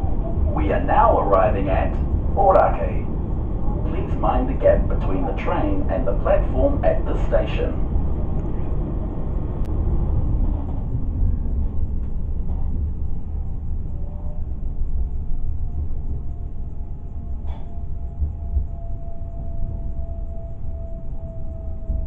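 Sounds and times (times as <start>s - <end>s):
faint steady whine: 0.0s - 22.0s
train rumbling: 0.0s - 22.0s.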